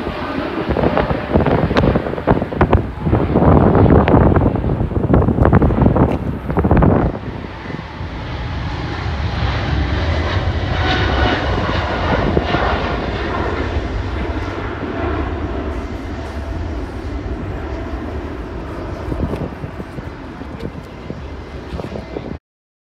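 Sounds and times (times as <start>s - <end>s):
faint jet whine: 0.0s - 22.4s
jet engines rumbling at takeoff: 0.0s - 22.4s.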